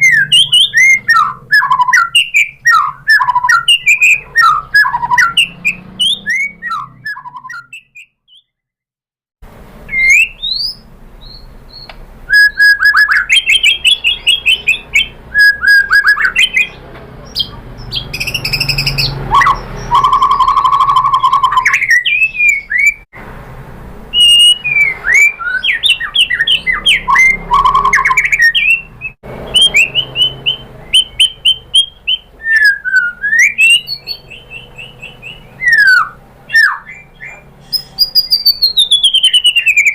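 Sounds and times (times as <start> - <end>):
bird singing whistled song: 0.0 - 8.6, 9.9 - 23.0, 24.1 - 39.9.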